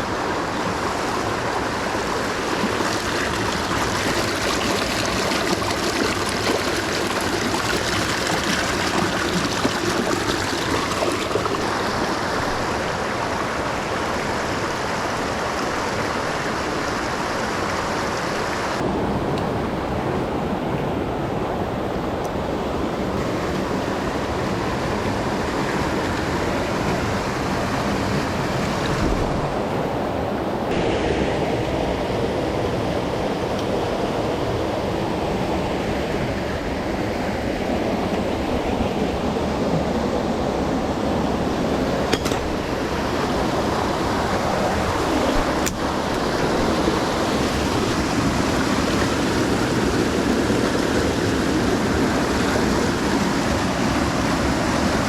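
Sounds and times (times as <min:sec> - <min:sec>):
stream rushing over rocks: 0:00.0 - 0:19.3, 0:22.4 - 0:55.0.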